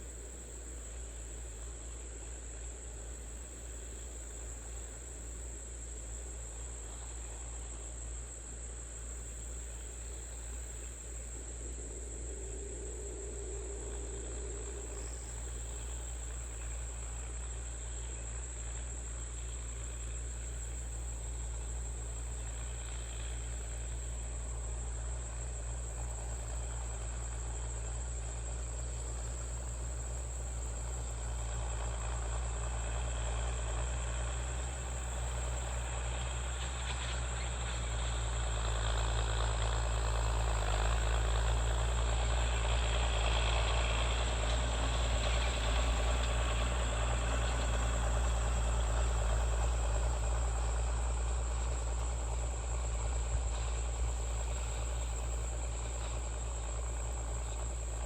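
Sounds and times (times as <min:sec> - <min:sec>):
insects trilling: 0:00.0 - 0:58.0
tractor engine droning: 0:00.0 - 0:58.0.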